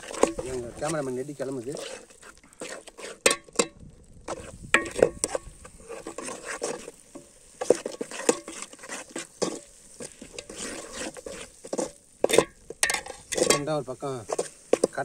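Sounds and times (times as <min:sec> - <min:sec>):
masala sizzling: 0:00.0 - 0:15.0
metal spoon scraping pot: 0:00.0 - 0:15.0.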